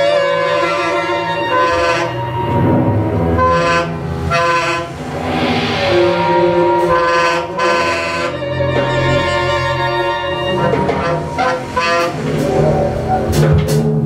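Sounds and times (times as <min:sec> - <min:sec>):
jazz big band playing chords: 0:00.0 - 0:13.8.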